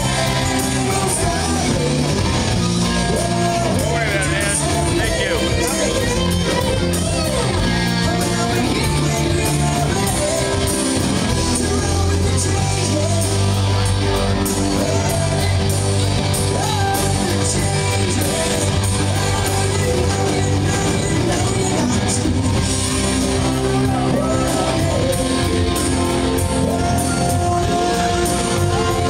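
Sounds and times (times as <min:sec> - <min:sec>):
live rock band playing: 0:00.0 - 0:29.0
man singing: 0:00.0 - 0:29.0.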